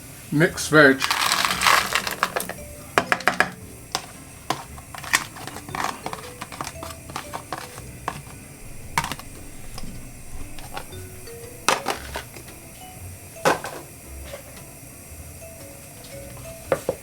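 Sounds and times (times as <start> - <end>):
faint background music: 0.0 - 17.0
vegetables clinking into pot: 1.0 - 14.6.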